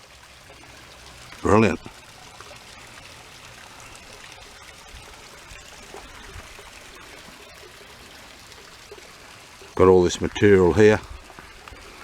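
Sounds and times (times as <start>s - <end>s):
small waterfall trickling: 0.0s - 12.0s.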